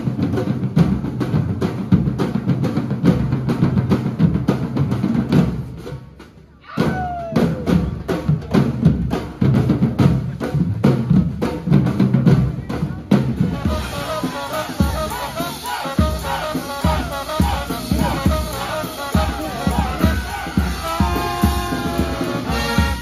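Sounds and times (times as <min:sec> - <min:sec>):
snare and hand drums: 0:00.0 - 0:23.0.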